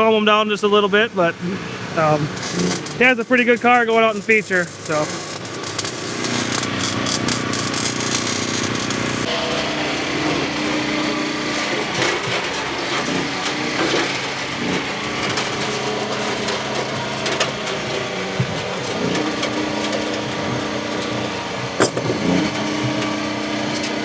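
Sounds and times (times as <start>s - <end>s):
car engines revving: 0.0s - 24.0s
knocks and clanks: 2.3s - 24.0s.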